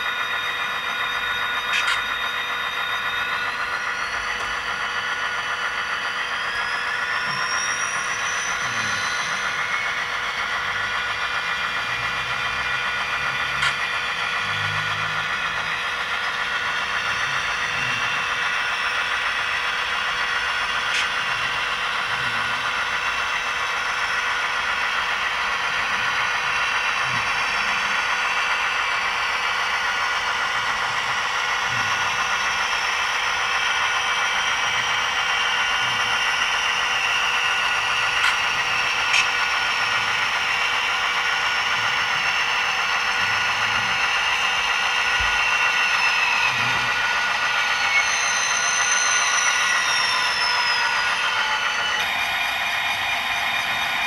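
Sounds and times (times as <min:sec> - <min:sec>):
model train diesel engine sound: 0:00.0 - 0:54.0
whine: 0:00.0 - 0:54.0.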